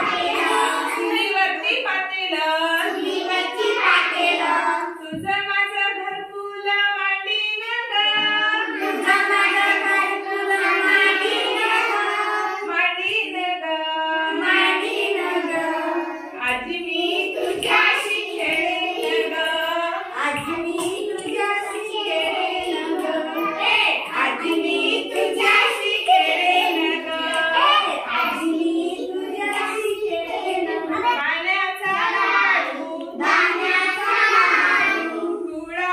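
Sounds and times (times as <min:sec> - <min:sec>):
woman and children singing: 0:00.0 - 0:35.9.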